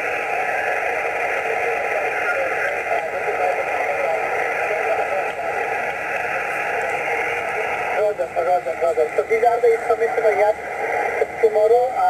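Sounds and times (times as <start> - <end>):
radio static hiss: 0.0 - 12.0
faint voice on radio: 0.1 - 12.0.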